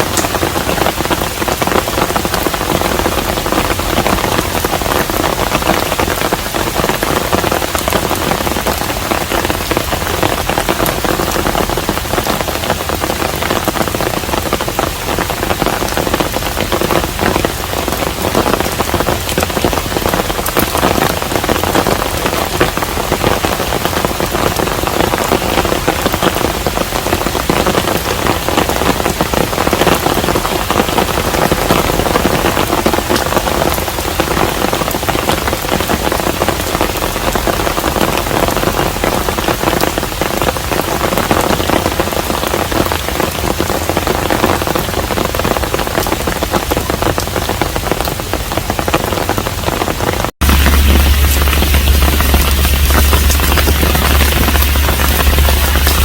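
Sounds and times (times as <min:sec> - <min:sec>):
rain pattering on a house: 0:00.0 - 0:56.0.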